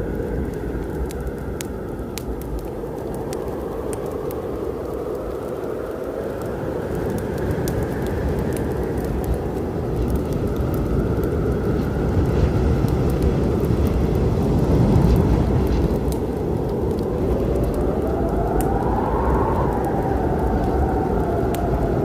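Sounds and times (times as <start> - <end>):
deep storm rumble: 0.0 - 22.0
wood fire crackling: 0.0 - 22.0.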